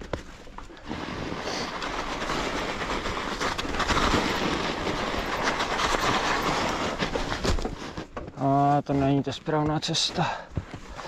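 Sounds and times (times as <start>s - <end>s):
bike rattling: 0.0s - 11.0s
bike tyres through snow: 0.0s - 11.0s.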